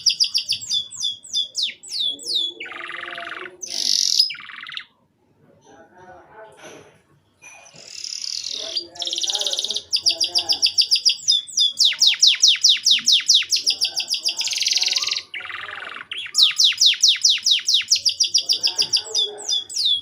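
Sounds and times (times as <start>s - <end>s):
canary singing: 0.0s - 5.0s, 7.4s - 20.0s.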